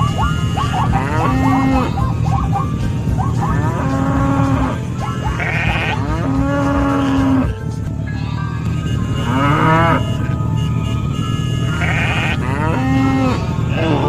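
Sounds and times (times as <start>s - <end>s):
farm animals calling: 0.0s - 14.0s
steady low rumble: 0.0s - 14.0s.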